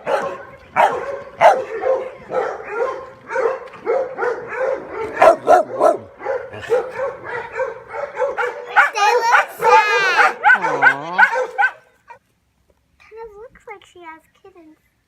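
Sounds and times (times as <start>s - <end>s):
dogs barking and yipping: 0.0s - 12.2s.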